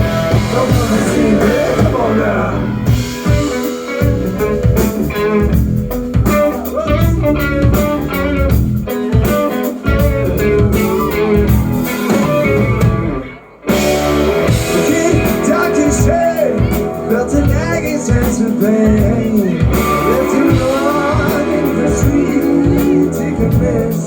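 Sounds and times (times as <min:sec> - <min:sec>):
electric guitar: 0:00.0 - 0:24.0
rock band playing: 0:00.0 - 0:24.0.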